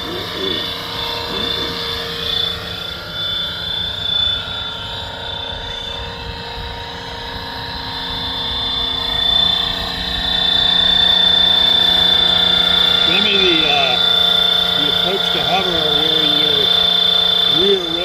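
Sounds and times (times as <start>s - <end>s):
rc helicopter whine: 0.0s - 18.0s.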